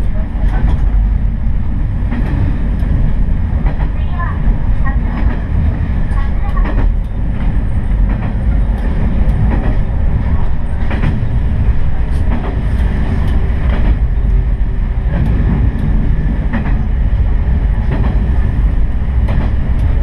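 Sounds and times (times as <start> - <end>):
diesel railcar rumbling: 0.0 - 20.0.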